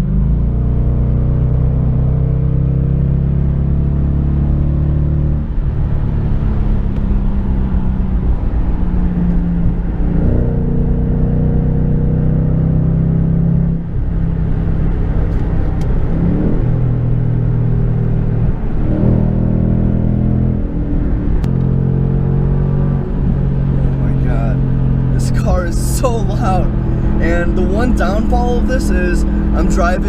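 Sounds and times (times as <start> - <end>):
car engine droning at speed: 0.0 - 30.0.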